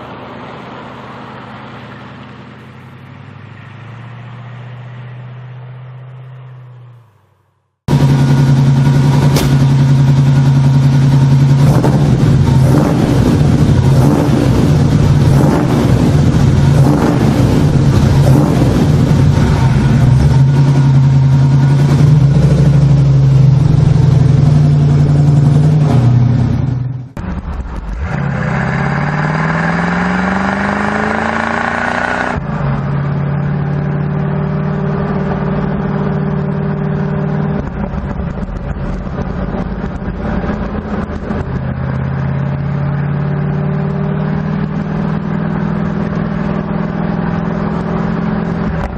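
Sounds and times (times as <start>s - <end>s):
muscle car engine running: 7.9s - 28.2s, 29.4s - 48.9s
car engine revving: 7.9s - 48.9s.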